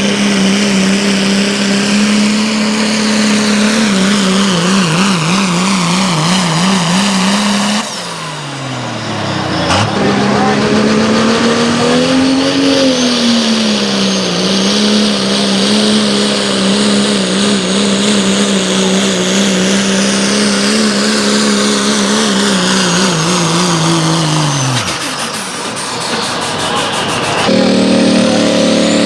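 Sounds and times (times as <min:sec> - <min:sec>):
vehicle engine revving under load: 0:00.0 - 0:29.0.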